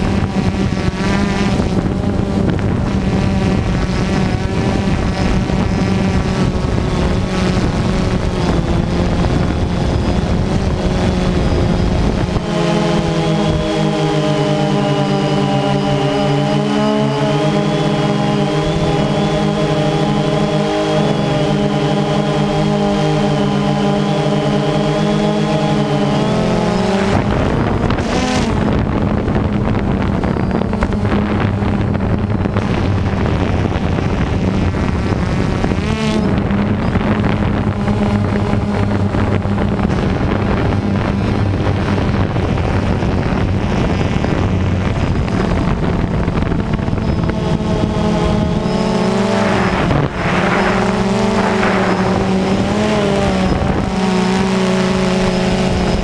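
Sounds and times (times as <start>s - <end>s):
quadcopter motors buzzing whine: 0.0s - 56.0s.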